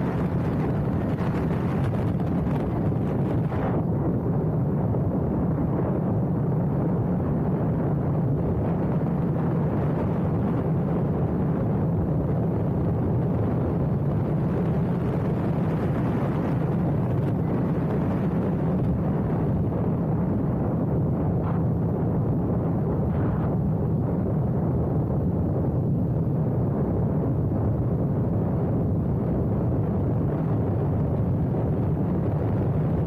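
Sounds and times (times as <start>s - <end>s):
motorcycle engine drone: 0.0s - 33.0s
wind rush on microphone: 0.0s - 33.0s.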